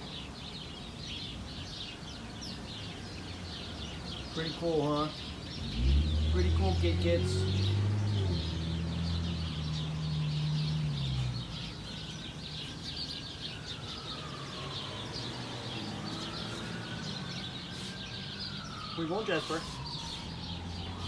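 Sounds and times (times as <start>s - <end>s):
small birds chirping: 0.0s - 21.0s
distant siren rising and falling: 0.2s - 21.0s.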